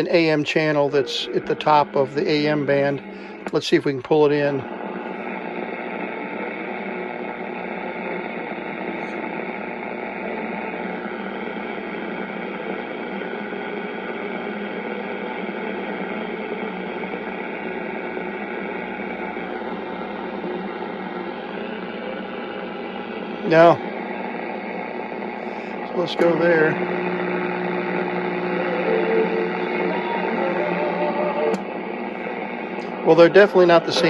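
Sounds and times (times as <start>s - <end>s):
faint radio hum: 0.0s - 13.0s, 13.7s - 34.0s
radio static hiss: 0.0s - 34.0s.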